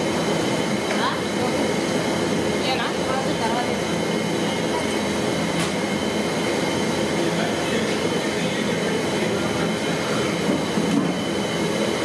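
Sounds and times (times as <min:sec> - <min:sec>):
mechanical hum and rumble: 0:00.0 - 0:12.0
noisy background: 0:00.0 - 0:12.0.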